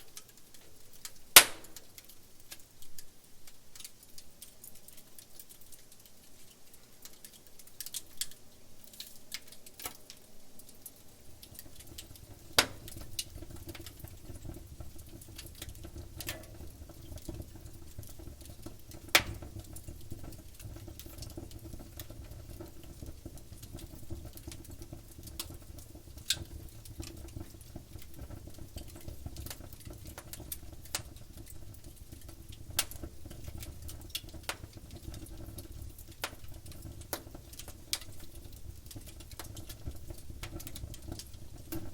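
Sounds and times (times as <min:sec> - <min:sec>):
firewood crackling and popping: 0:00.0 - 0:41.9
low rumble of fire: 0:00.0 - 0:41.9.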